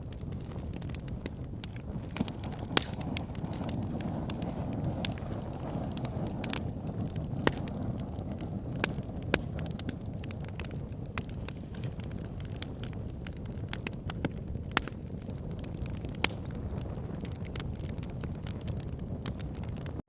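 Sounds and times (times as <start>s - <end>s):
low rumble of flames: 0.0s - 20.0s
wood fire crackles and pops: 0.0s - 20.0s.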